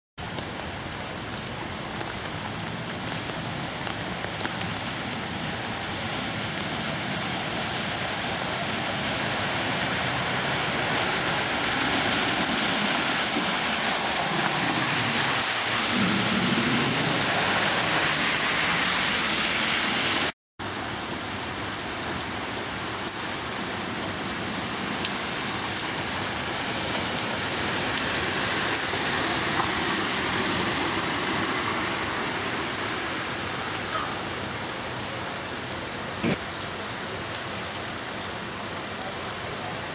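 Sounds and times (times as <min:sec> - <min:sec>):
heavy rain falling: 0:00.2 - 0:39.9
car driving through floodwater: 0:00.6 - 0:39.9.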